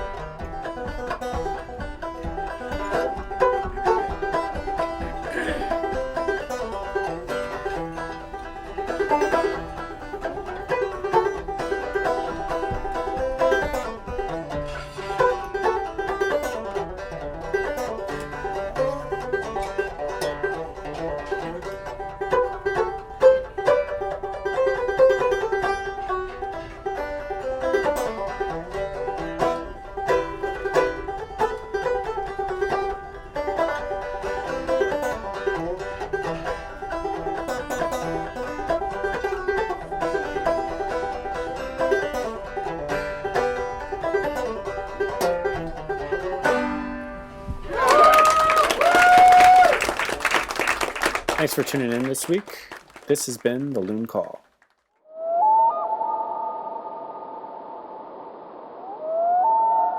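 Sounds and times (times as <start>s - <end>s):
banjo plucking a tune: 0.0s - 48.1s, 49.0s - 54.3s.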